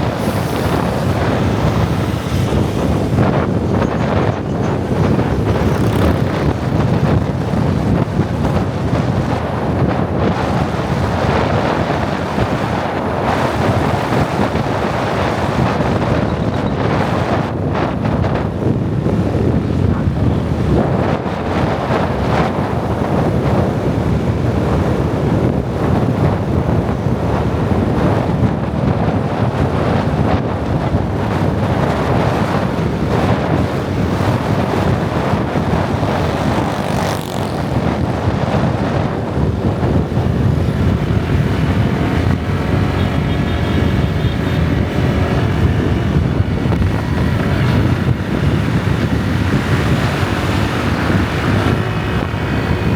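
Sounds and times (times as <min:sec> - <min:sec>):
motorbike engine: 0:00.0 - 0:52.9
road noise: 0:00.0 - 0:52.9
wind buffeting microphone: 0:00.0 - 0:52.9.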